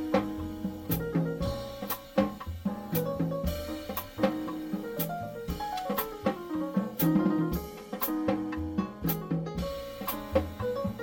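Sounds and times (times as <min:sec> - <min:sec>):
jazzy piano and guitar: 0:00.0 - 0:11.0
steady drum beat: 0:00.0 - 0:11.0.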